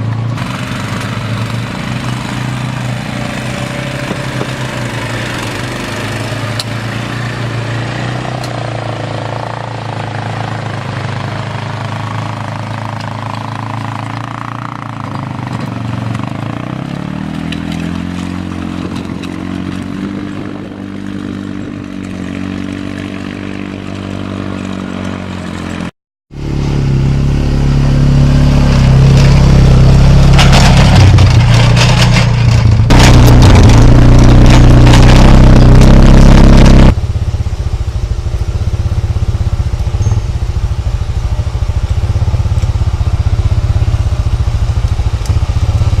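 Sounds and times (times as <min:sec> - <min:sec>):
engine working hard with clattering: 0:00.0 - 0:46.0
small vehicle engine running: 0:00.0 - 0:46.0.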